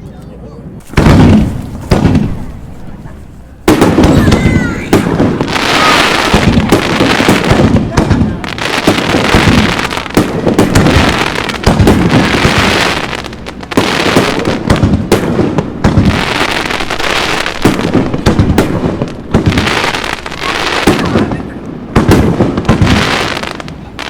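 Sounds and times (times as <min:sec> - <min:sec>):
fireworks bangs: 0:00.6 - 0:24.0
fireworks crackling: 0:00.6 - 0:24.0.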